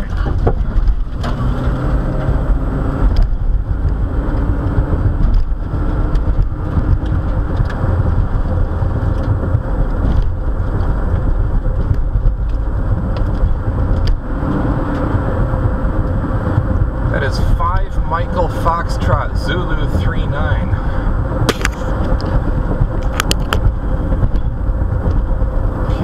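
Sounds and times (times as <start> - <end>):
road and tyre rumble: 0.0 - 26.0.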